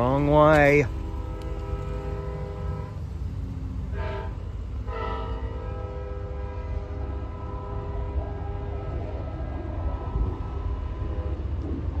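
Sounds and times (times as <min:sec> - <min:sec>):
train air horn blasts: 0:00.2 - 0:03.2, 0:03.9 - 0:11.8.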